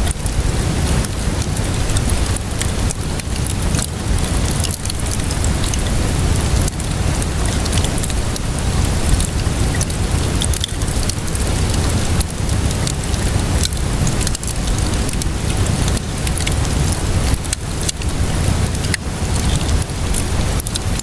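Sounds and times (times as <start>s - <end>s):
burning wood popping: 0.0s - 21.0s
rain falling: 0.0s - 21.0s
wood fire crackling: 0.0s - 21.0s.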